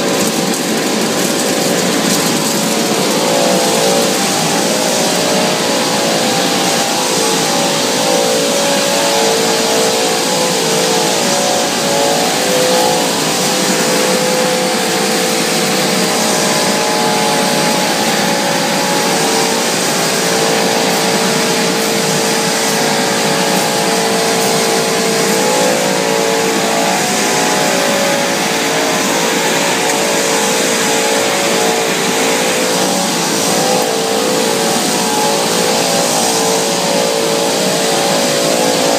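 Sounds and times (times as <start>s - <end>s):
humming tones: 0.0s - 38.9s
loud steady machine noise: 0.0s - 38.9s.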